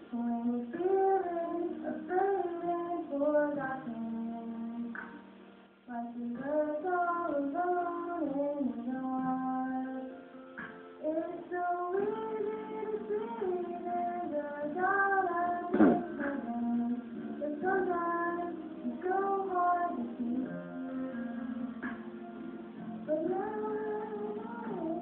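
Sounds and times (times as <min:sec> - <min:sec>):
light instrumental accompaniment: 0:00.0 - 0:25.0.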